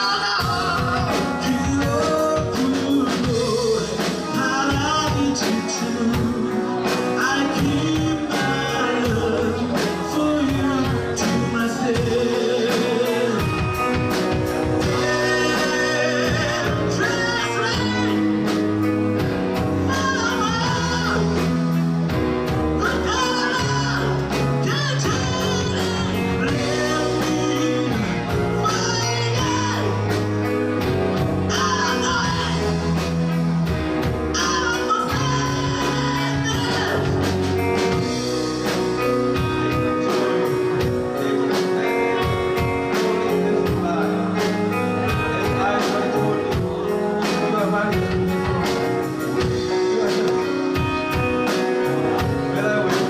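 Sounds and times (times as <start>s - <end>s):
bass guitar: 0.0s - 53.0s
electric guitar: 0.0s - 53.0s
person singing: 0.0s - 53.0s
steady drum beat: 0.0s - 53.0s.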